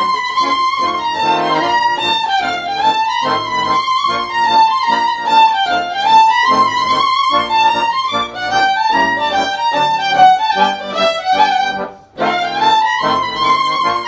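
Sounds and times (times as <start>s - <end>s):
fiddle playing folk melody: 0.0s - 14.0s.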